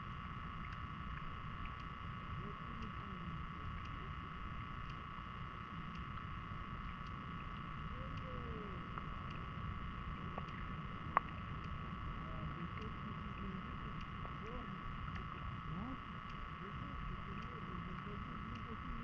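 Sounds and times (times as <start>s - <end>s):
constant hum: 0.0s - 19.0s
muffled underwater river rumble: 0.0s - 19.0s.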